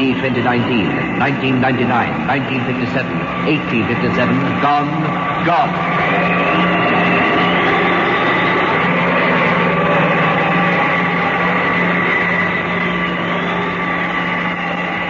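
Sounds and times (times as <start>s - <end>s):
electronic hum and whir: 0.0s - 15.0s.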